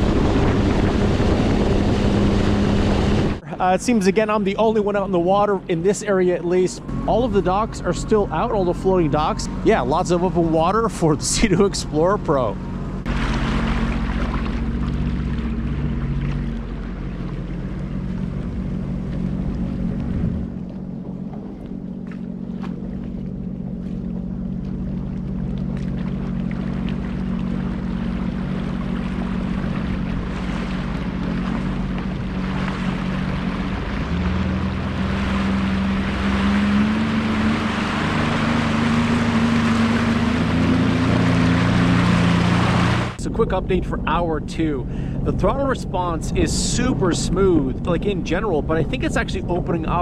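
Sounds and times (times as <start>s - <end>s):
personal watercraft engine running: 0.0s - 50.0s
rushing water: 0.0s - 50.0s.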